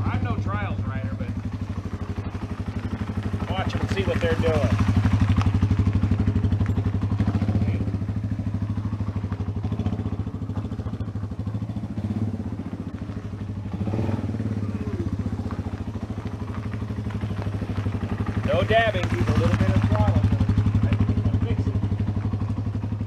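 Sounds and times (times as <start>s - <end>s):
motorcycle engine running off idle: 0.0s - 23.0s.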